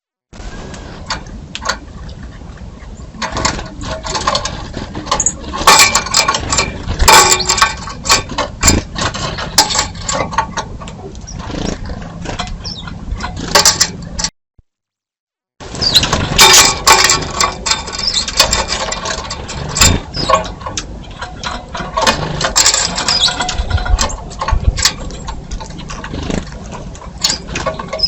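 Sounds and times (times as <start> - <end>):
birds pecking: 0.4 - 14.3, 15.6 - 28.0
birds scuffling: 0.4 - 14.3, 15.6 - 28.0
wing flutters: 3.2 - 14.3, 15.6 - 28.0.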